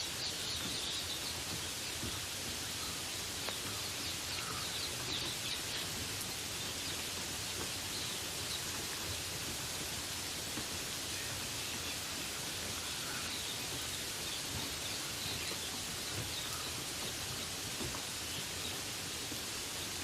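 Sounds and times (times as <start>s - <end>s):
rain falling in forest: 0.0s - 20.0s.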